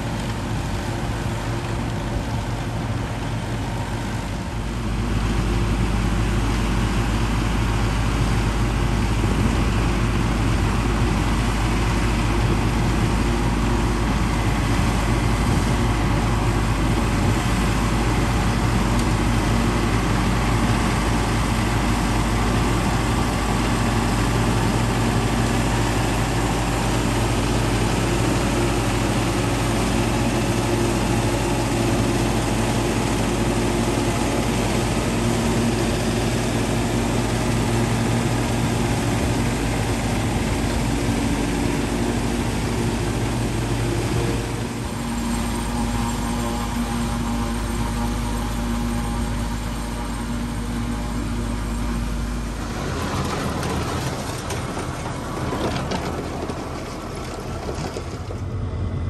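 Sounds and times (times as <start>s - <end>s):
forage harvester cutterhead and blower: 0.0s - 59.0s
tractor engine hum: 0.0s - 59.0s.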